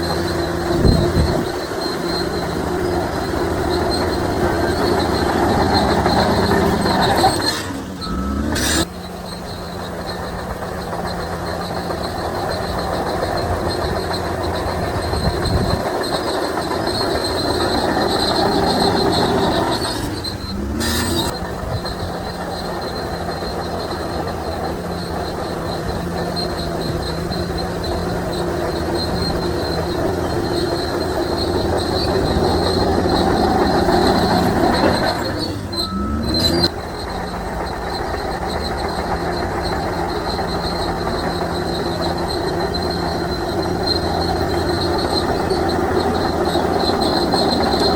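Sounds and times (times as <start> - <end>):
bulldozer diesel engine under load: 0.0 - 47.9
high-pitched whine: 0.0 - 47.9
steel tracks running: 0.0 - 47.9.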